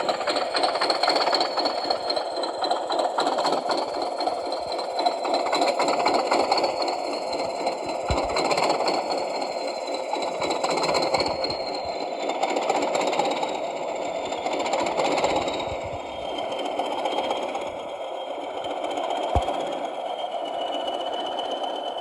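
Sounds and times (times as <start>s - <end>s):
model diesel engine sound: 0.0s - 22.0s
thin high whine: 3.6s - 22.0s.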